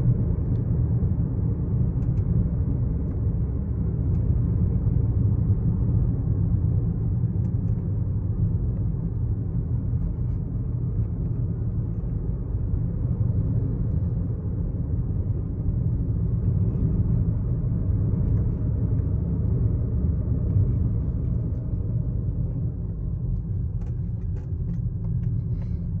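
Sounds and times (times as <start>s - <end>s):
car engine rumble in cabin: 0.0s - 26.0s.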